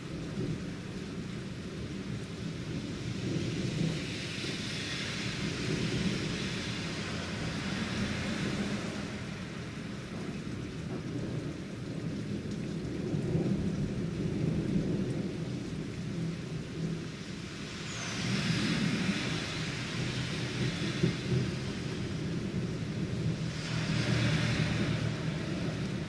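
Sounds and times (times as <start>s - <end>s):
car tyres hissing on wet street: 0.0s - 26.0s
rolling thunder: 0.0s - 26.0s
steady rain: 0.0s - 26.0s.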